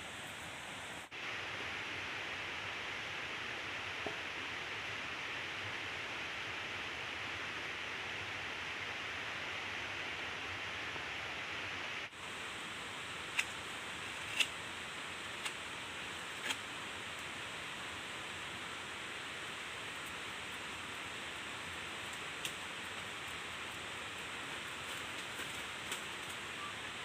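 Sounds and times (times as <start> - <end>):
steady rushing outdoor noise: 0.0 - 27.0.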